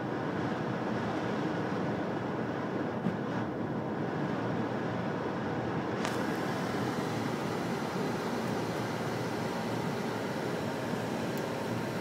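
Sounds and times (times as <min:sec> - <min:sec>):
aircraft air and engine noise: 0:00.0 - 0:12.0.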